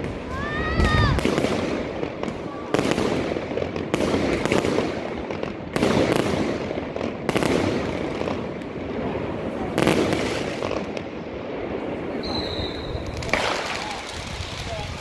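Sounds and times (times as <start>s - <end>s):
fireworks bursting with crackle: 0.0s - 15.0s.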